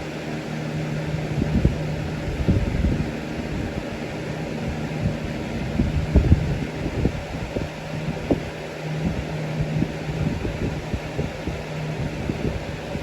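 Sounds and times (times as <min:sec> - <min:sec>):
box fan motor hum: 0:00.0 - 0:13.0
low thumps of wind on microphone: 0:00.0 - 0:13.0.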